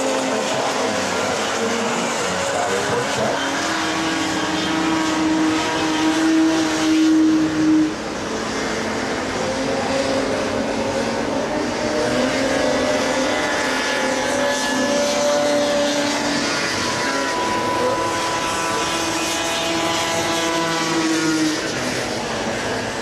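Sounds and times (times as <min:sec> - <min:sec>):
racing snowmobile engines: 0:00.0 - 0:23.0.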